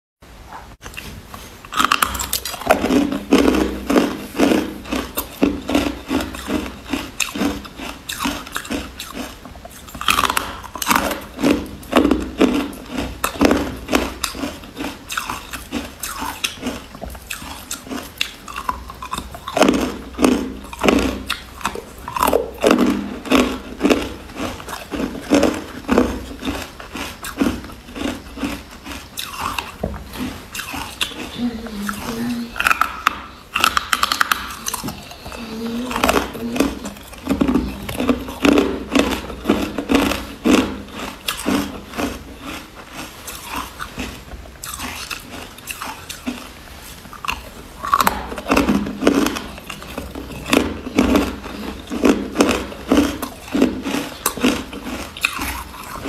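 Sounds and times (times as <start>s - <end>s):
ice crunching being chewed: 0.8s - 56.0s.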